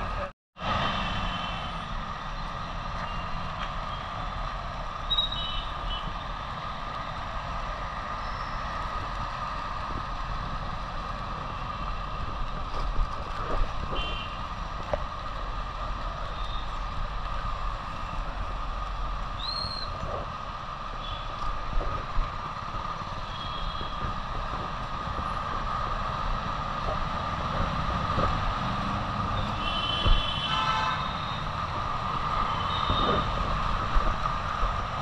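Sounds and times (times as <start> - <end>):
motorcycle engine and road noise: 0.0 - 35.0.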